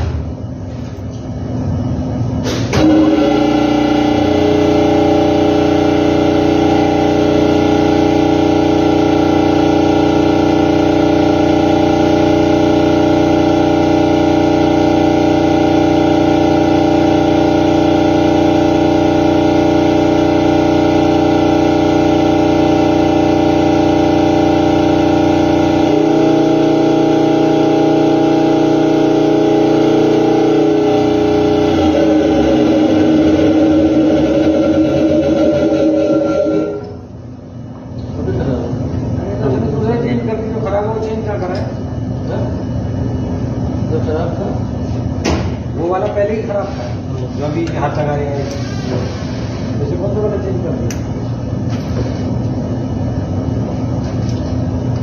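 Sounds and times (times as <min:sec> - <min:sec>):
compressor humming: 0:00.0 - 0:55.0.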